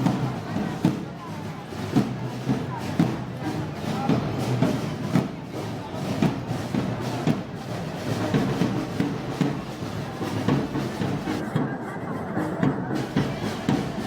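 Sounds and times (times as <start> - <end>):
heavy drum strokes: 0.0 - 11.8, 12.6 - 14.0.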